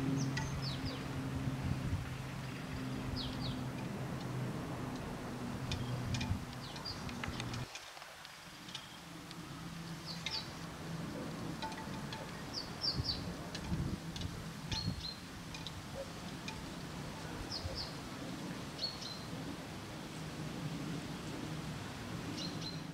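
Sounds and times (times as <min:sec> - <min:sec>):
small birds chirping: 0:00.0 - 0:04.3, 0:04.9 - 0:18.1, 0:18.7 - 0:19.4, 0:22.3 - 0:22.9.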